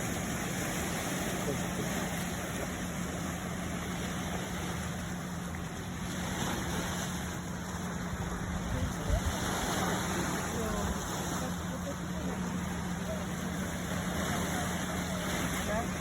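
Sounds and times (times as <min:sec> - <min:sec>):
low engine hum: 0:00.0 - 0:16.0
sea rushing: 0:00.0 - 0:16.0.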